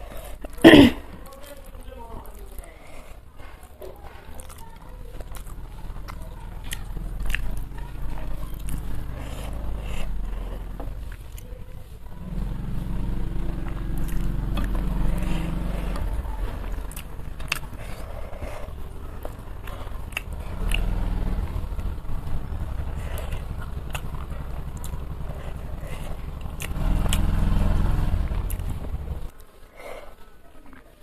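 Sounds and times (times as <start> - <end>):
chewing with wet mouth clicks: 0.0 - 29.5.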